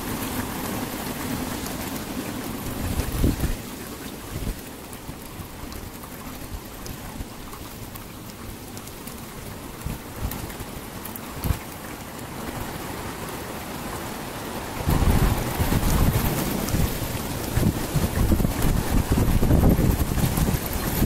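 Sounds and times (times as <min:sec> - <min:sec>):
wind buffeting microphone: 0:00.0 - 0:11.7, 0:14.6 - 0:21.0
strong wind through trees: 0:00.0 - 0:21.0.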